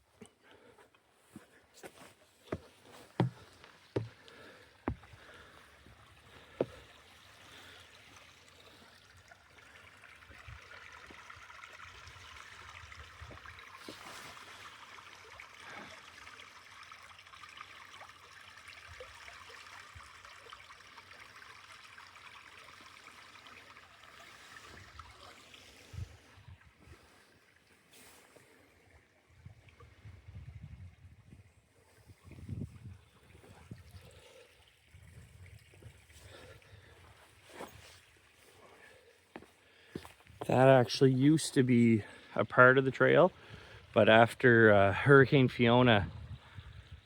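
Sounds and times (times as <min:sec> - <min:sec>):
stream trickling: 0:00.0 - 0:47.0.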